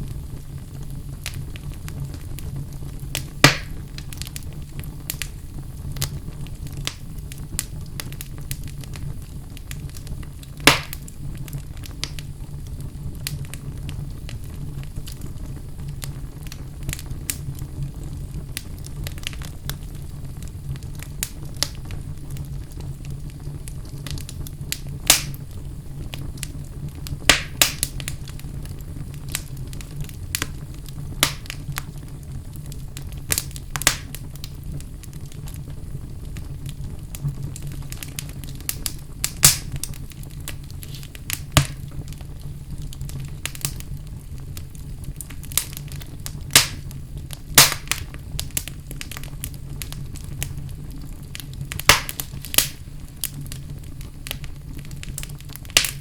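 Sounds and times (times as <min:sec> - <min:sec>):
low rumble of fire: 0:00.0 - 0:56.0
wood fire crackling: 0:00.0 - 0:56.0.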